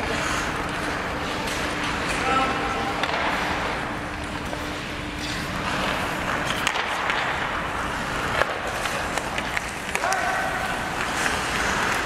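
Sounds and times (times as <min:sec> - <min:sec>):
hockey sticks and puck clacking: 0:00.0 - 0:12.0
skates scraping on ice: 0:00.0 - 0:12.0.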